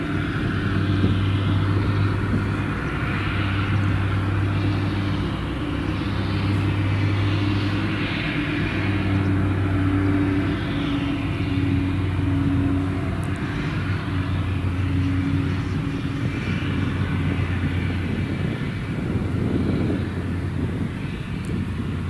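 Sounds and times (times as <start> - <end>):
forage harvester engine humming: 0.0 - 22.0.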